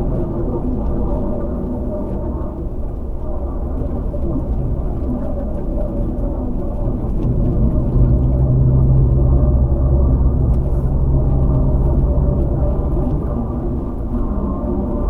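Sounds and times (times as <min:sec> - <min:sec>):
car engine and tyre hum: 0:00.0 - 0:15.0.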